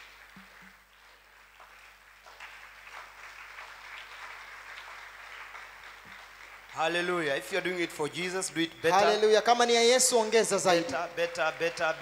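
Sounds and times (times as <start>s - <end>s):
congregation clapping: 0.0s - 12.0s.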